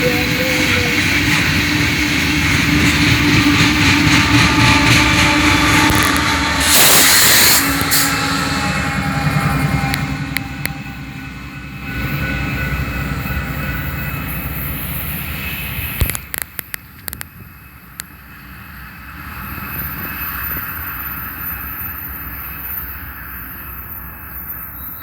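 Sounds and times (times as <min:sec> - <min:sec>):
train cars rumbling on rails: 0:00.0 - 0:25.0.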